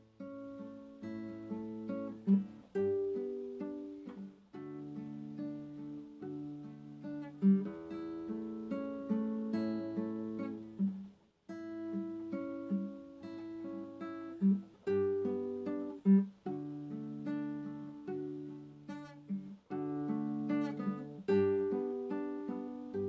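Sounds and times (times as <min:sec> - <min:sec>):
acoustic guitar played slowly: 0:00.0 - 0:23.0.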